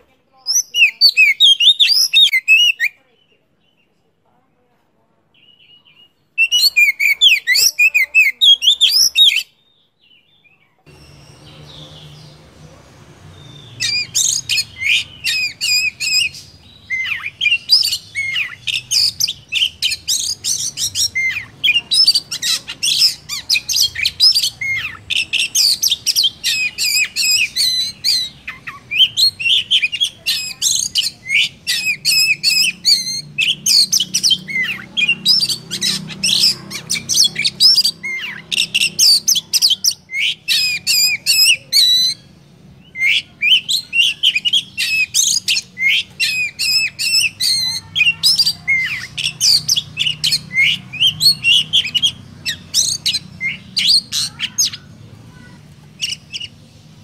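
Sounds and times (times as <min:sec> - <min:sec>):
bird singing: 0:00.0 - 0:04.2, 0:05.3 - 0:57.0.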